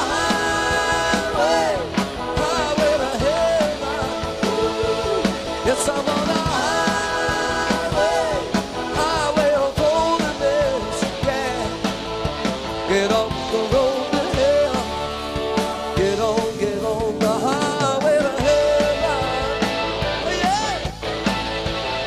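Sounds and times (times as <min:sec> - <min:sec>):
person singing lead vocal: 0:00.0 - 0:11.8, 0:12.8 - 0:15.1, 0:15.9 - 0:20.9
drum kit: 0:00.0 - 0:22.0
electric guitars: 0:00.0 - 0:22.0
keyboards: 0:00.0 - 0:22.0.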